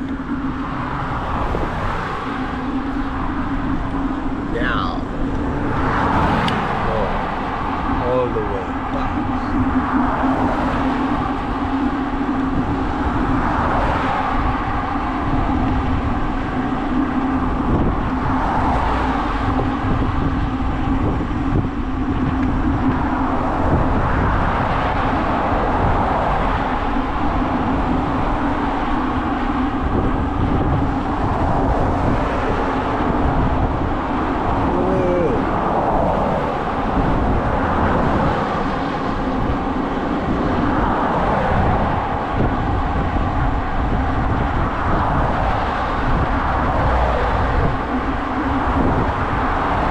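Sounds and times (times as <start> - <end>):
bicycle tyre and road noise: 0.0 - 49.9
steady hum: 0.0 - 49.9
wind buffeting microphone: 0.0 - 49.9.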